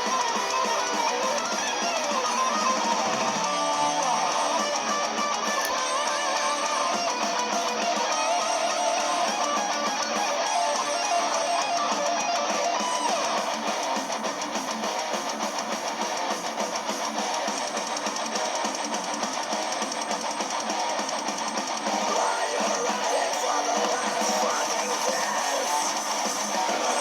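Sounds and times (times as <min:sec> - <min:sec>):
music playing: 0:00.0 - 0:27.0.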